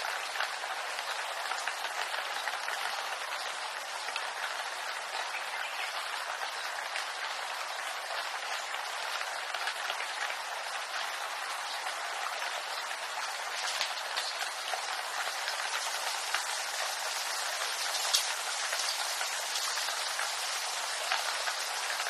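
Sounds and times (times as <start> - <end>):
rain pattering on leaves: 0.0 - 22.0.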